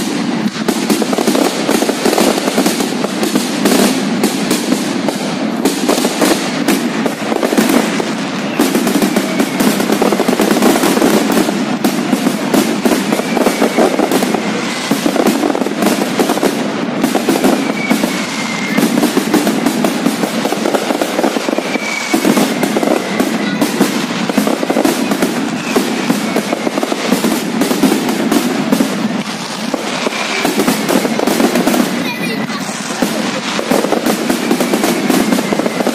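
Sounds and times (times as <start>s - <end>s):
fireworks bangs and crackling: 0.0s - 35.9s
fireworks falling whistles: 0.0s - 35.9s.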